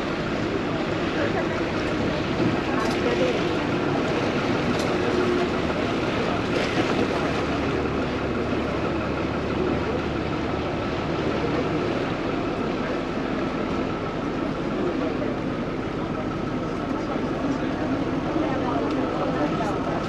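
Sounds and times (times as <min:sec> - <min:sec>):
water bus engine running: 0:00.0 - 0:20.0.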